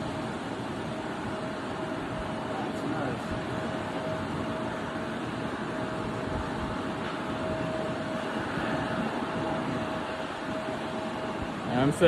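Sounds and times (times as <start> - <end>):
jet engine rumble and whine: 0.0 - 12.0.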